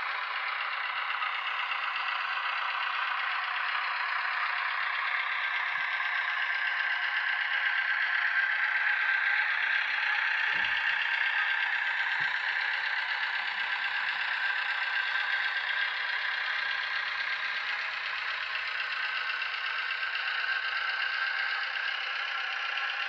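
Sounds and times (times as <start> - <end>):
model locomotive engine running: 0.0 - 23.0.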